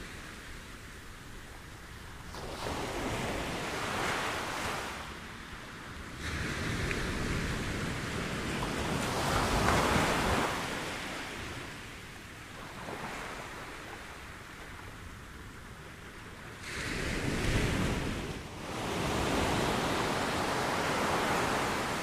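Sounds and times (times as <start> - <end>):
ocean surf breaking on beach: 2.1 - 22.0.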